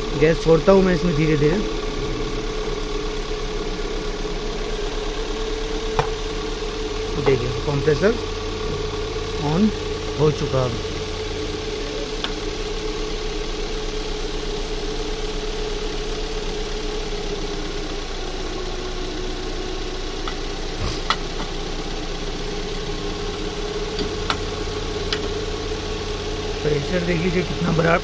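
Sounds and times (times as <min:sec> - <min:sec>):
air conditioning compressor running: 0:00.0 - 0:28.0
car engine idling: 0:00.0 - 0:28.0.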